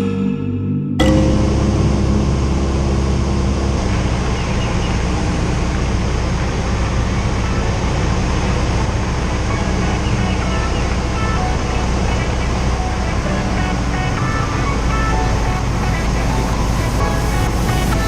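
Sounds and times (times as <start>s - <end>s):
aircraft engine droning in cockpit: 1.5s - 18.0s.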